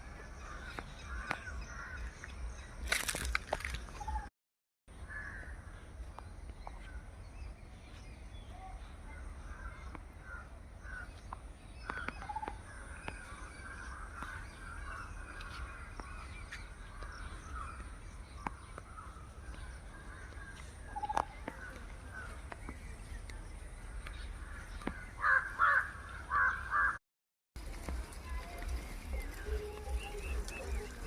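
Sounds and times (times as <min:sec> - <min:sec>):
birds calling: 0:00.0 - 0:04.3, 0:04.9 - 0:27.0, 0:28.0 - 0:31.0.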